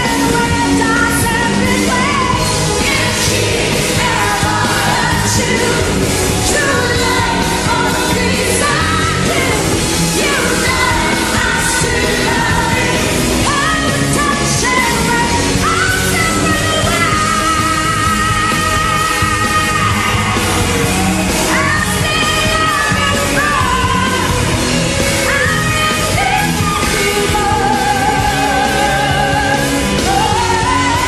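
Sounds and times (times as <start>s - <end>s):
woman singing into microphone: 0.0s - 20.4s, 21.5s - 24.5s, 25.2s - 31.0s
band accompaniment: 0.0s - 31.0s.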